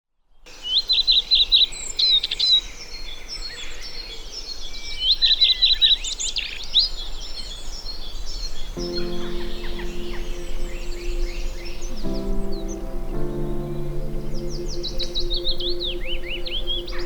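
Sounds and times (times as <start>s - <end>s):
wild birds singing: 0.5s - 17.0s.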